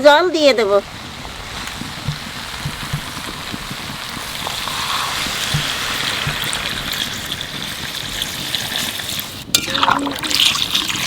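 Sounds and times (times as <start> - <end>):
chicken sizzling in a hot pan: 0.4 - 9.8.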